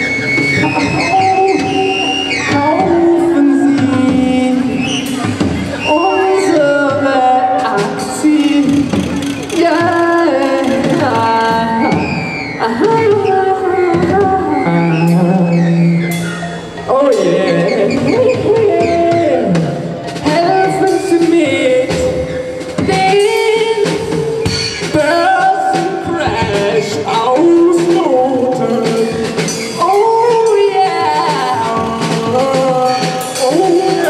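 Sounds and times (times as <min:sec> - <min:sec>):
live band playing: 0:00.0 - 0:34.0
man singing lead vocal: 0:00.0 - 0:34.0.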